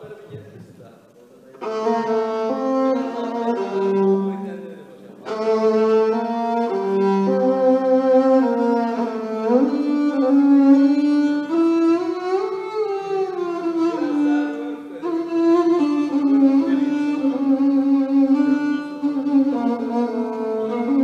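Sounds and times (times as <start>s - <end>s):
solo violin playing slow melody: 1.6s - 21.0s.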